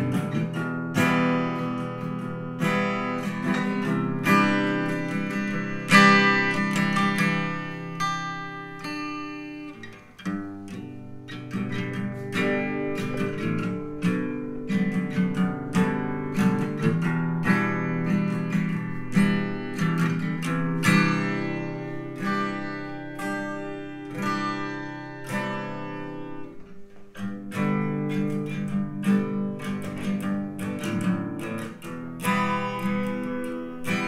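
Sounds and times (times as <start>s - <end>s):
acoustic guitar through speaker: 0.0s - 34.0s.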